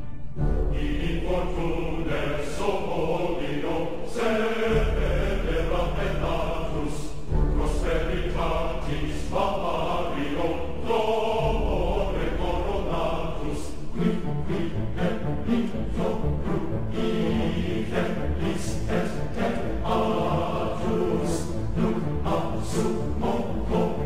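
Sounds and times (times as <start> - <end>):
choir-like chanting: 0.0 - 24.0.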